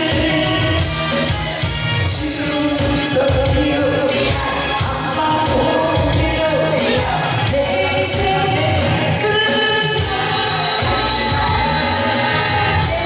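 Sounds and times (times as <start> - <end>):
man singing into microphone: 0.0 - 1.5, 2.1 - 13.0
backing track with steady beat: 0.0 - 13.0.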